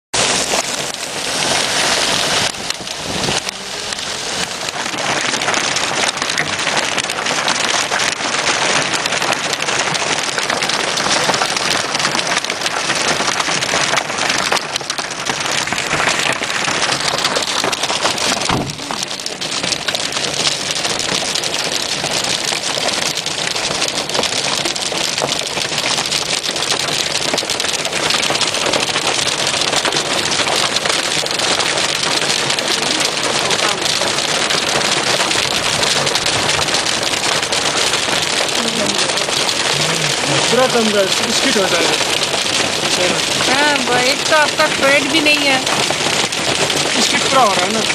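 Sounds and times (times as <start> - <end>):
hail clattering: 0.2 - 47.9.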